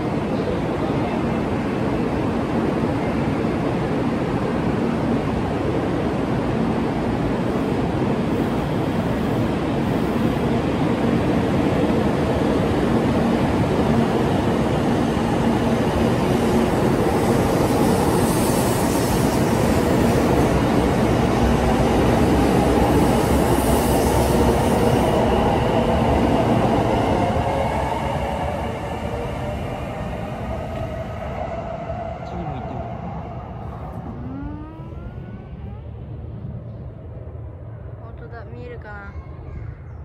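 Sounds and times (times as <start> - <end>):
train running noise: 0.0 - 39.1.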